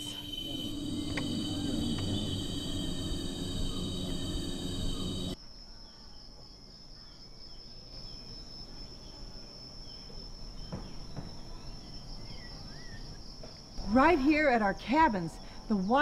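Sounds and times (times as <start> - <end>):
faint bird chirps: 0.0 - 13.3
insects droning: 0.0 - 16.0.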